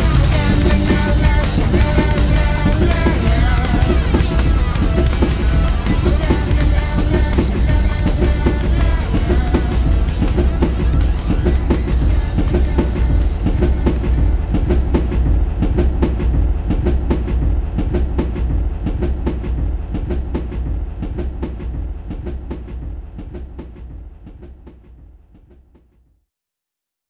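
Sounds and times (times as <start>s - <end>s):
low rumble: 0.0s - 24.6s.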